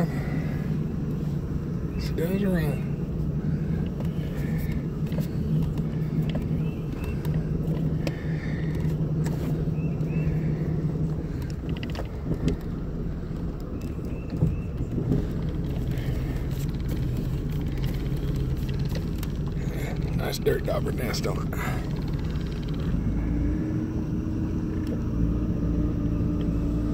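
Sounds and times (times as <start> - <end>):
boat engine idling: 0.0 - 26.9.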